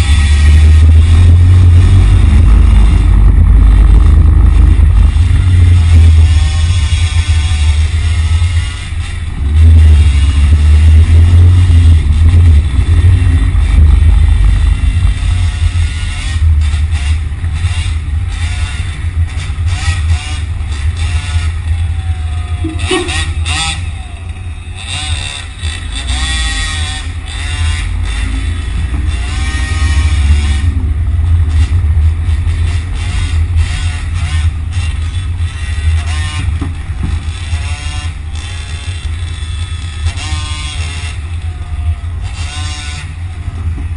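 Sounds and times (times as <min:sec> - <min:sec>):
deep rumble: 0:00.0 - 0:43.9.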